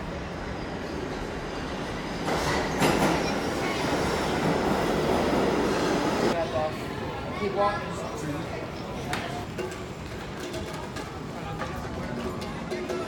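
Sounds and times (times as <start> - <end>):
subway train rumbling into station: 0.0 - 13.0.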